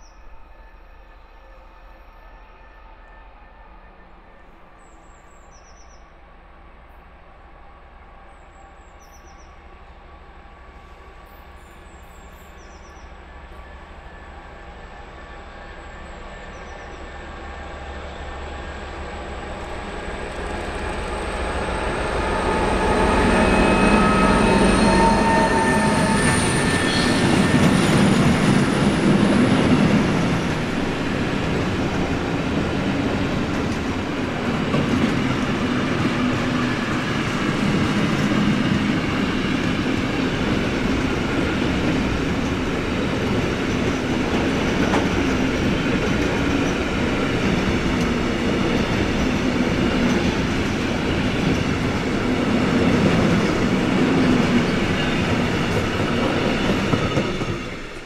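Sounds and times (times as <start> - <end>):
diesel locomotive engine drone: 6.2 - 58.0.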